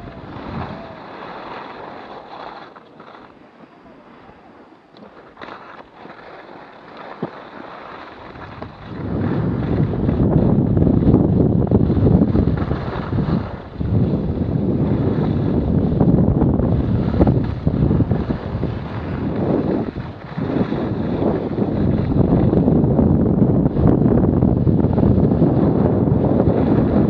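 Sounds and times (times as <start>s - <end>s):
skis sliding over snow: 0.0s - 22.8s
wind buffeting microphone: 0.0s - 27.0s.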